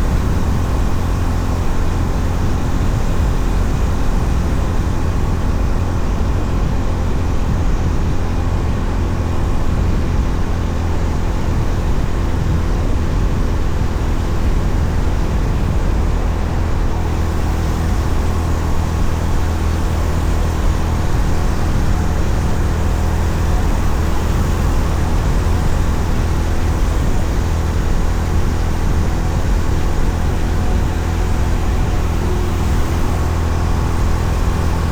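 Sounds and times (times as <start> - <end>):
motorcycle engine cruising: 0.0 - 34.9
road noise: 0.0 - 34.9
wind noise: 0.0 - 34.9.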